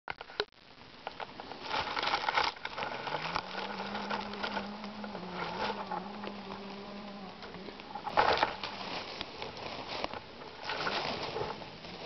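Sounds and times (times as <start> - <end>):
dry leaves and twigs crackling: 0.2 - 12.0
low steady hum: 0.2 - 12.0.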